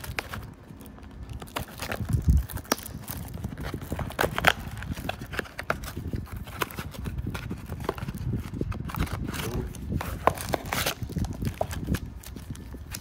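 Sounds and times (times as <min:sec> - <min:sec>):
cellophane crackling: 0:00.0 - 0:13.0.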